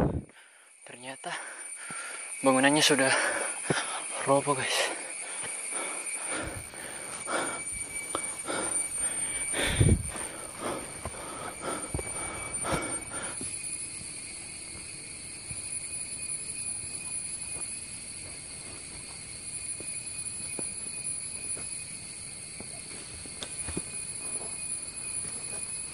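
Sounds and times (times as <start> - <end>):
high insect chorus: 0.0 - 25.9.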